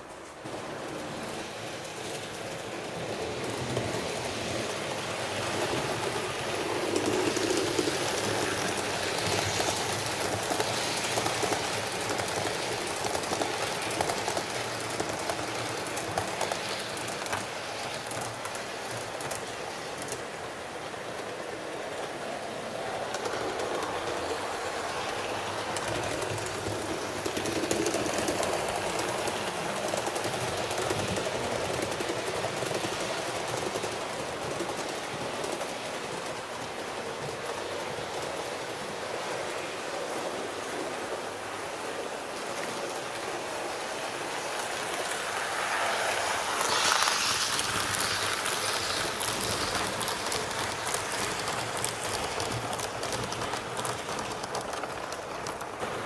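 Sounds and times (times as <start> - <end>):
model train rolling on track: 0.0 - 56.0
wheels clicking over rail joints: 0.0 - 56.0.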